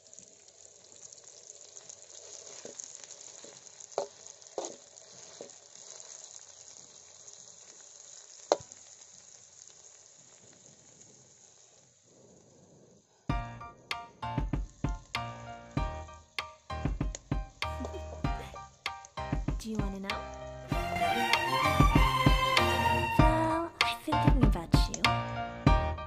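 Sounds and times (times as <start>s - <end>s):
paste sizzling in a wok: 0.0s - 23.7s.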